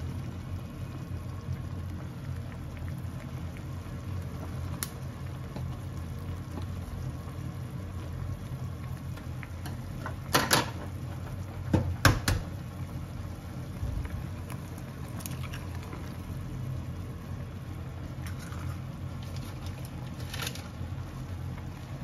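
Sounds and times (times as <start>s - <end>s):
broth bubbling in metal tin: 0.0s - 22.0s
gas burner low hum: 0.0s - 22.0s.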